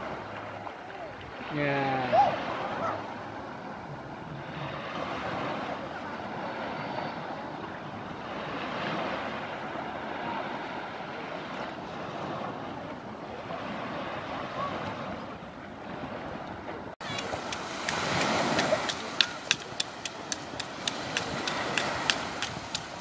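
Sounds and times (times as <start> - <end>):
sea surf washing onto beach: 0.0 - 23.0.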